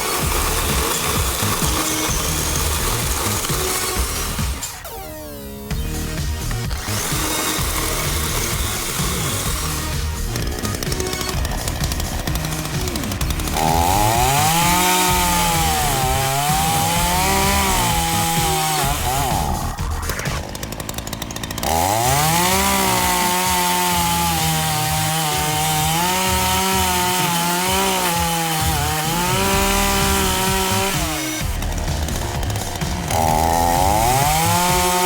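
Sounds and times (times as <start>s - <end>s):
chainsaw cutting branches: 0.0s - 35.0s.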